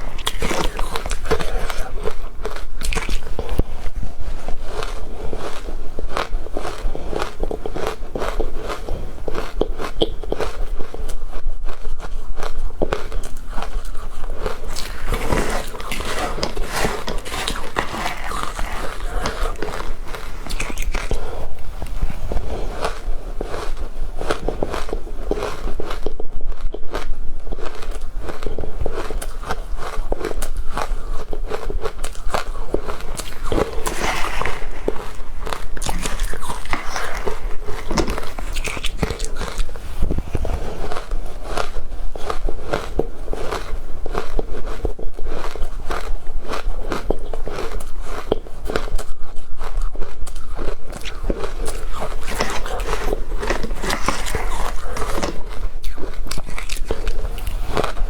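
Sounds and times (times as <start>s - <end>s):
crunchy chewing of ice: 0.0s - 58.0s.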